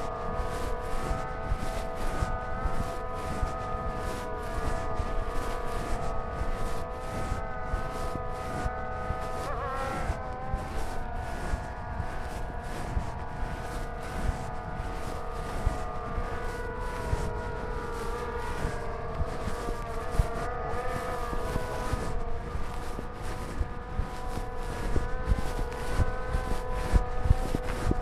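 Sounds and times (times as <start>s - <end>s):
low wind rumble: 0.0s - 28.0s
drone propellers whining: 2.8s - 28.0s.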